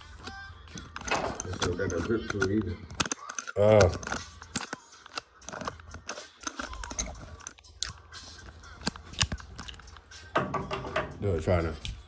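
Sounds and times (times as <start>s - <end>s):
clicks and knocks of handling: 0.2s - 11.2s.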